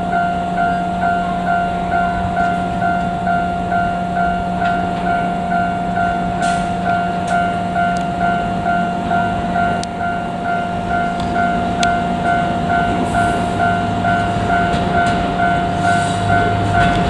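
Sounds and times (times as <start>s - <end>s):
diesel railcar running: 0.0s - 17.0s
level crossing alarm ringing: 0.0s - 17.0s.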